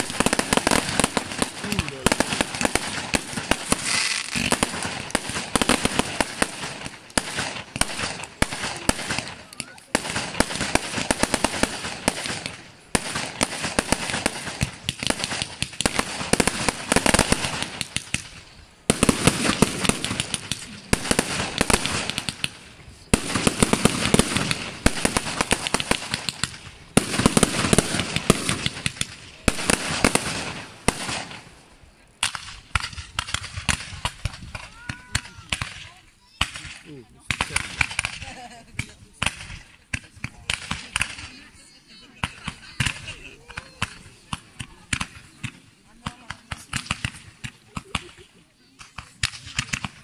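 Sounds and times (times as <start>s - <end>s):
firework shells bursting: 0.0s - 41.4s, 42.2s - 50.0s
rapid crackling pops: 0.0s - 41.5s, 42.2s - 50.0s.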